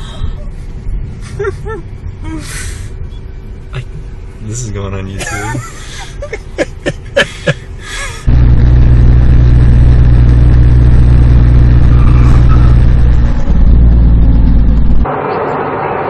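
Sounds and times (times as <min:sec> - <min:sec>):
vehicle engine and road drone: 0:00.0 - 0:16.0.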